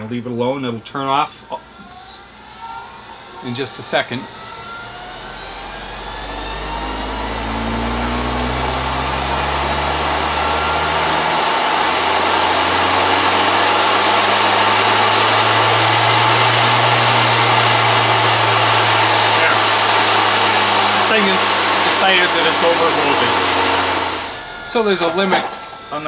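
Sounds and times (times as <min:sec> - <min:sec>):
treadmill motor whirring: 0:00.0 - 0:26.0.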